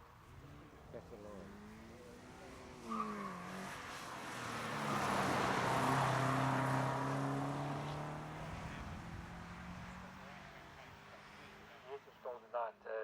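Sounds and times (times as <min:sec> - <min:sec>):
car driving past at speed: 0:00.2 - 0:12.0.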